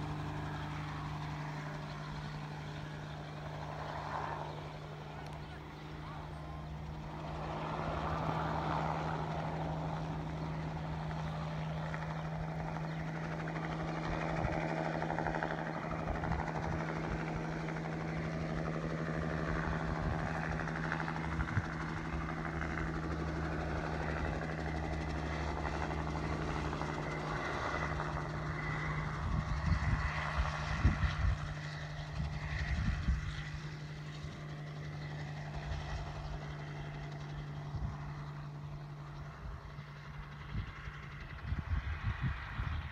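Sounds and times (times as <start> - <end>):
helicopter engine and rotor drone: 0.0 - 42.9.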